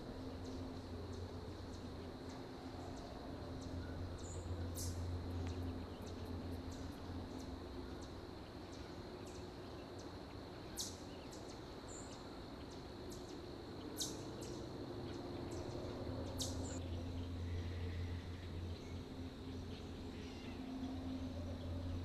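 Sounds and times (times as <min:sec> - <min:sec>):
low steady rumble: 0:00.0 - 0:10.6, 0:13.7 - 0:22.0
insects droning: 0:00.0 - 0:22.0.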